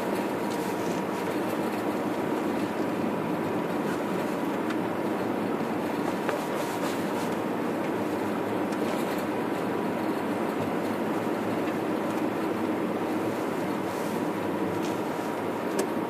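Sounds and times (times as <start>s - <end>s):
car engine running: 0.0s - 16.0s
tyres on snowy road: 0.0s - 16.0s.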